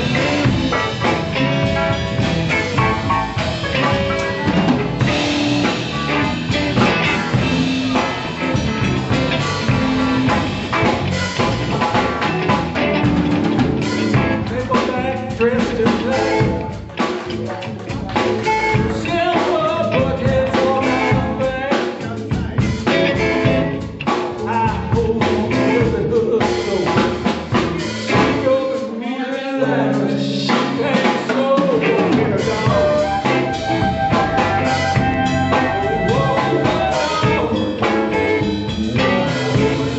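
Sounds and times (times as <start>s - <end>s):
live blues band playing: 0.0s - 39.9s.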